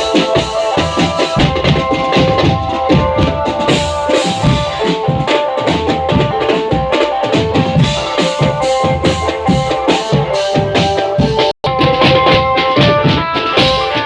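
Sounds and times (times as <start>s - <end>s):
marching drums: 0.0s - 14.0s
melody of held notes: 0.0s - 14.0s.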